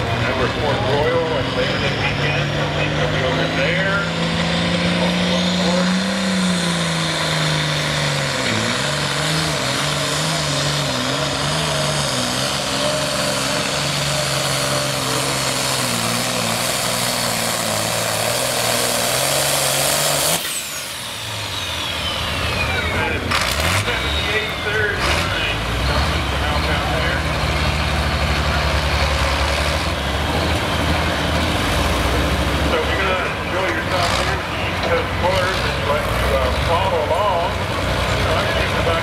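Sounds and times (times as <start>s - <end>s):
tractor diesel engine lugging: 0.0s - 39.0s.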